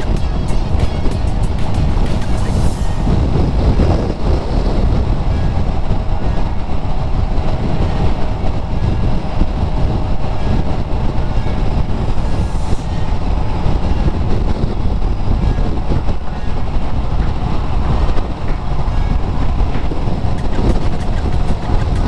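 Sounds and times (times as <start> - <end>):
wind rush over microphone: 0.0 - 22.0.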